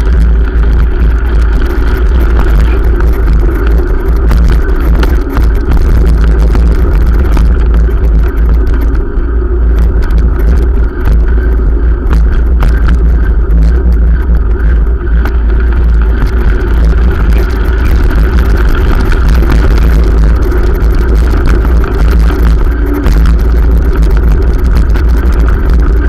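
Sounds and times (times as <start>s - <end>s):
small clicks and rattles: 0.0s - 26.0s
wind buffeting microphone: 0.0s - 26.0s.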